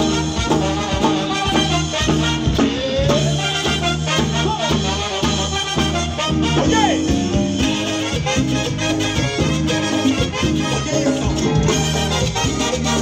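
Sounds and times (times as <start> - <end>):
latin dance band playing: 0.0 - 13.0.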